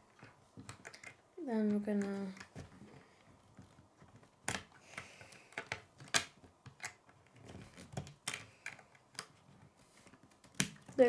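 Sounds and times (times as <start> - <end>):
plastic pieces clicking together: 0.1 - 2.7, 3.7 - 11.0.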